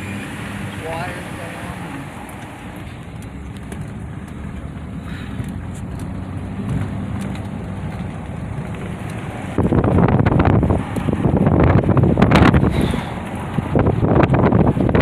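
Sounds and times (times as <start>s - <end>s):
car road and engine rumble: 0.0s - 15.0s
wind buffeting microphone: 2.2s - 15.0s.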